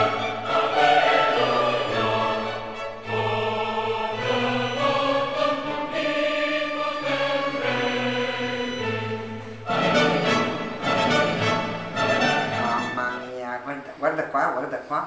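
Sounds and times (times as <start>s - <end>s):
choir singing held chords: 0.0s - 13.0s
orchestral backing: 0.0s - 13.7s.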